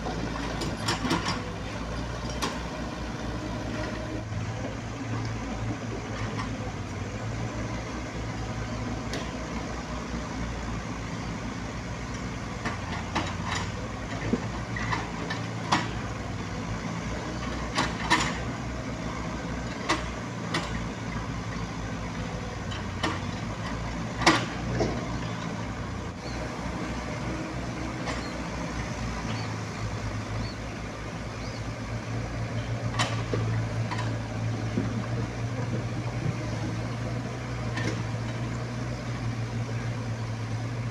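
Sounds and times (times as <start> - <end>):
excavator diesel engines running: 0.0 - 40.9.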